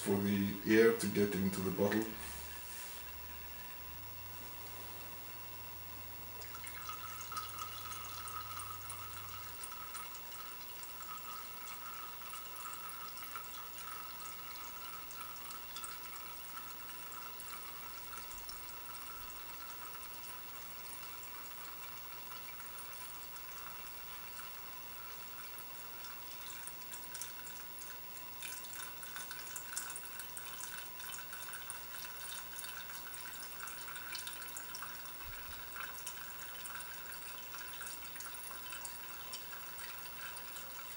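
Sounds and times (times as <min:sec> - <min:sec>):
fuel trickling and dripping: 0:01.9 - 0:40.9.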